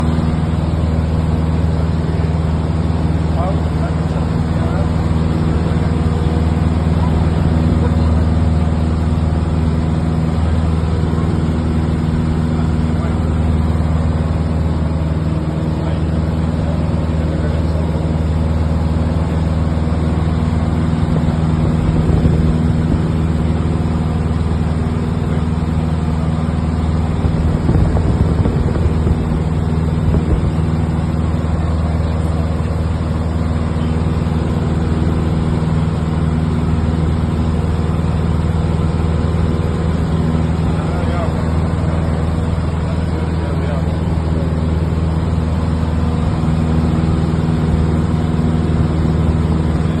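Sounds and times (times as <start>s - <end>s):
aircraft engine drone in cabin: 0.0s - 50.0s.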